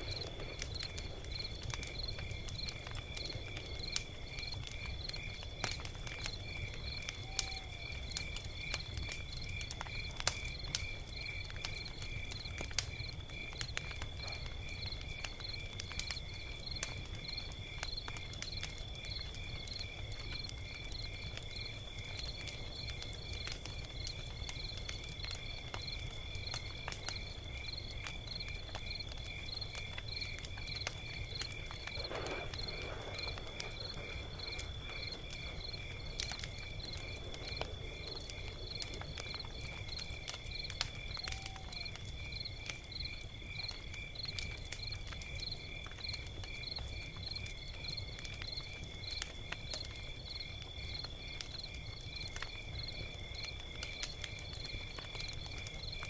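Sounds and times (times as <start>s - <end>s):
log fire crackling and popping: 0.0s - 56.0s.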